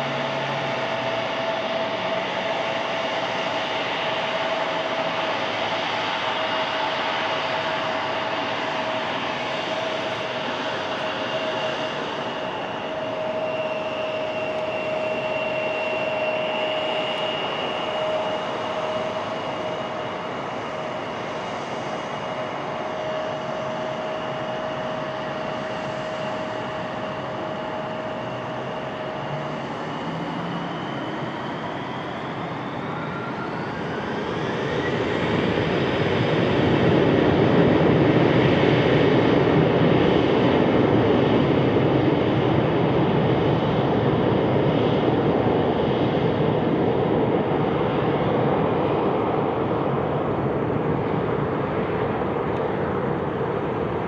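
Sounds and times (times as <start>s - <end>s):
jet engine whine: 0.0s - 54.0s
loud jet engine noise: 0.0s - 54.0s.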